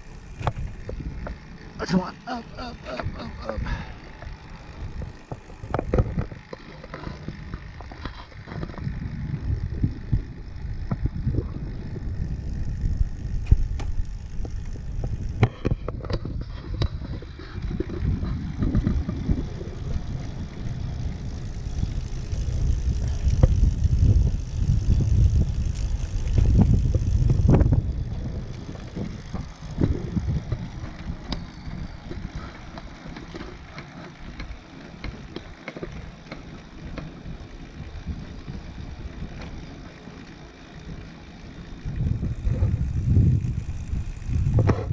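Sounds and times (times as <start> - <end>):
wind rumble on microphone: 0.0 - 1.6, 2.8 - 44.9
bicycle tyre noise: 0.0 - 44.9.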